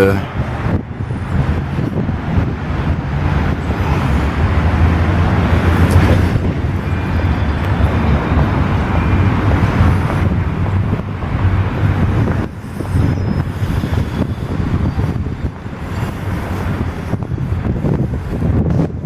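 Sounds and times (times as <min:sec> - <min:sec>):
city noise rumble: 0:00.0 - 0:19.0
wind buffeting microphone: 0:00.0 - 0:19.0.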